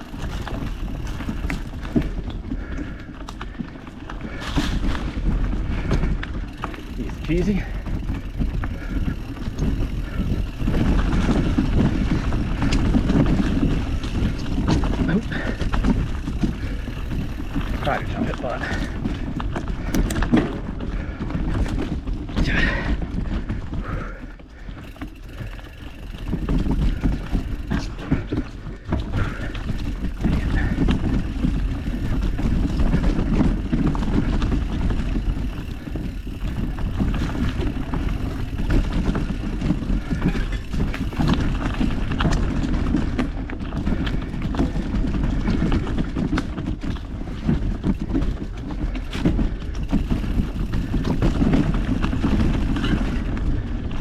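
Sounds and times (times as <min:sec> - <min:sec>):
bike clicks and rattles: 0:00.0 - 0:54.0
bike tyres rumbling on dirt: 0:00.0 - 0:54.0.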